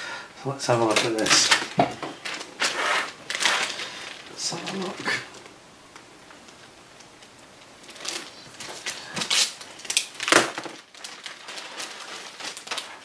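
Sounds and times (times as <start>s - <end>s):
plastic packaging rustling: 0.5s - 13.0s.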